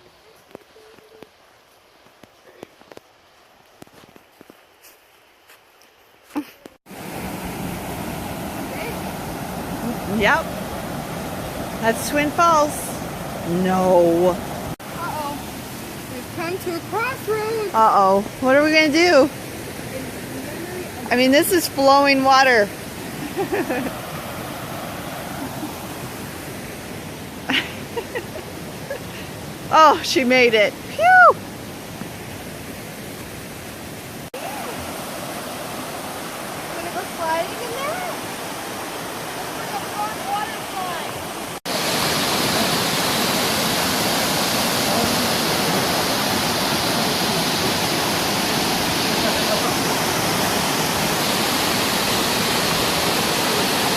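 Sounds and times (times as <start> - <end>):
creek water rushing: 0.0 - 53.9.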